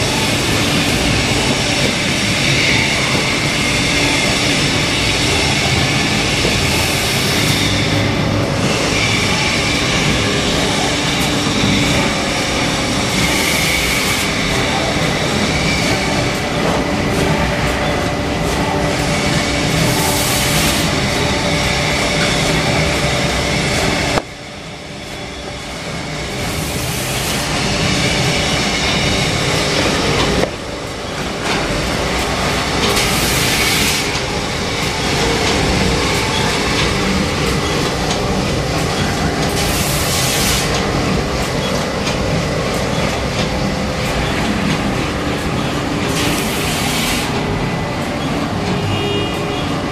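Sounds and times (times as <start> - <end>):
machinery humming drone: 0.0 - 49.9.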